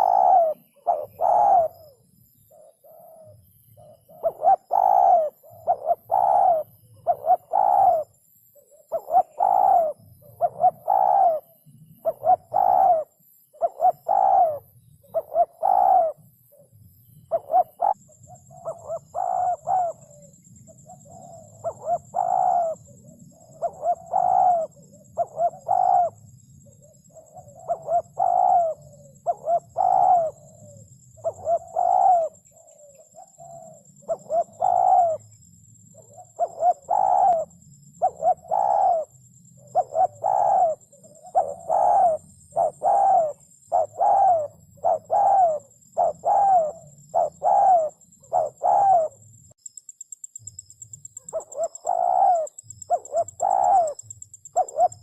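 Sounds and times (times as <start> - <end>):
dove cooing: 0.0 - 49.3, 51.1 - 55.0.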